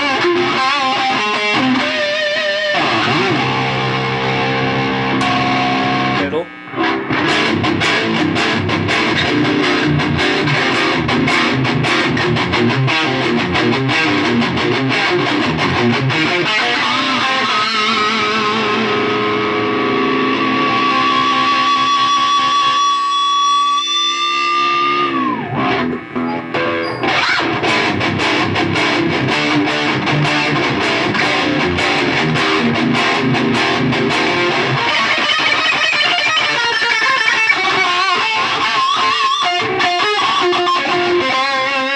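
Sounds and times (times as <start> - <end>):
distorted electric guitar lead: 0.0 - 41.9.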